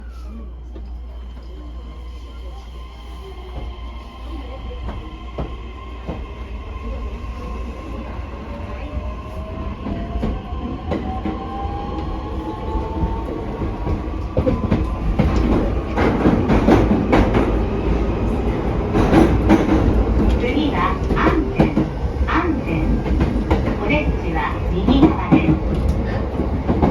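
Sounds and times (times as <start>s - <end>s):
train rolling noise: 0.0s - 26.9s.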